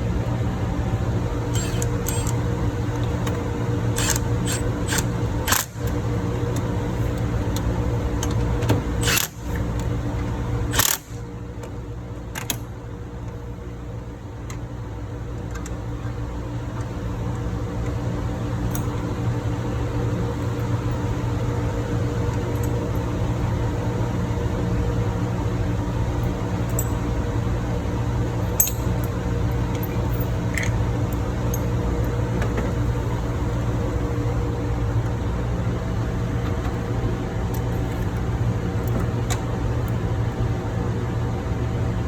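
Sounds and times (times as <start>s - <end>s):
engine-room machinery drone: 0.0s - 42.0s.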